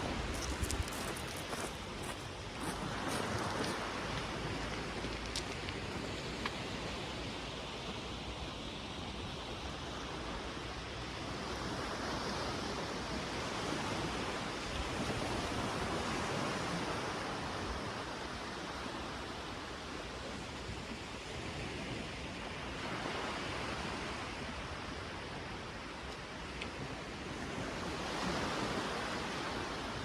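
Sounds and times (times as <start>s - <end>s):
waves washing onto beach: 0.0s - 30.0s.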